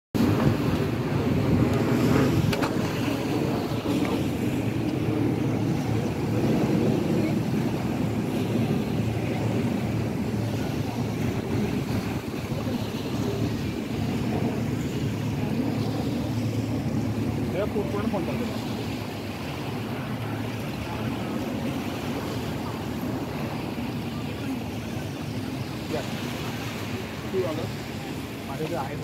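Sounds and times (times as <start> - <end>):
wind buffeting microphone: 0.1 - 29.0
boat engines droning: 0.2 - 29.0.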